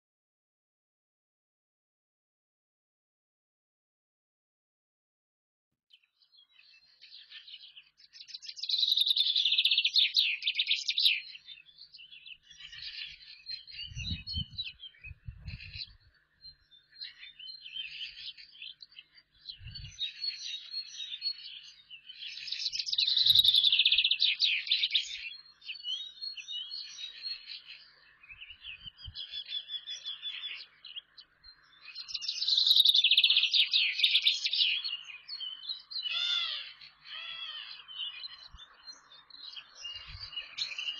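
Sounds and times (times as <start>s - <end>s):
soft bird chirping: 6.0s - 40.9s
songbird trilling: 6.4s - 40.9s.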